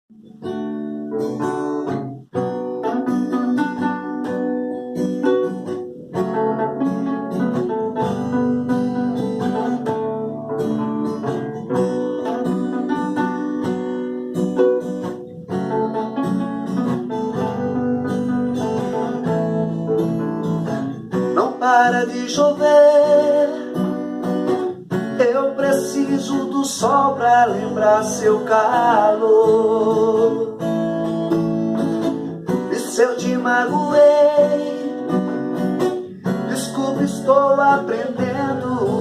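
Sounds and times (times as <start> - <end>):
acoustic guitar chords: 0.1 - 39.0.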